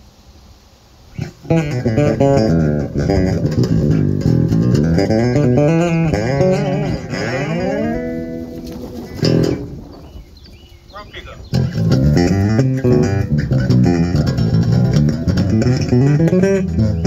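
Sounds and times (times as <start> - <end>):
electric bass riff: 1.1 - 10.2, 11.4 - 17.0.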